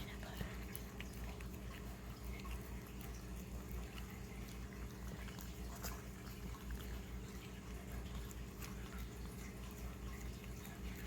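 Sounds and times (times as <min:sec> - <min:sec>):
puppy licking and smacking: 0:00.0 - 0:11.0.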